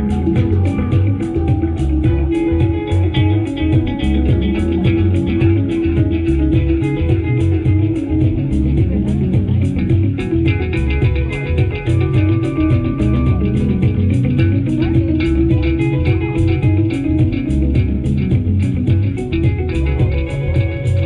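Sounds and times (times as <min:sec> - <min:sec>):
bass line: 0:00.0 - 0:21.0
plucked guitar-like notes: 0:00.0 - 0:21.0
steady ticking beat: 0:00.0 - 0:21.0.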